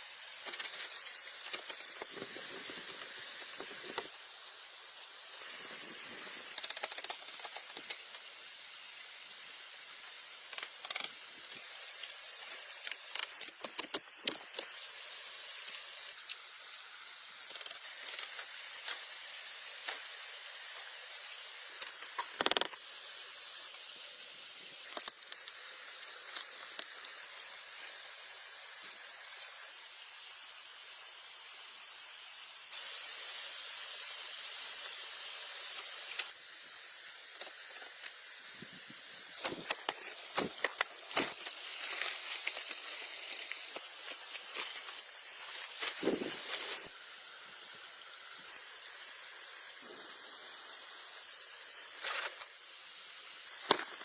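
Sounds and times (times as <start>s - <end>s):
falling water rushing hiss: 0.0s - 54.0s.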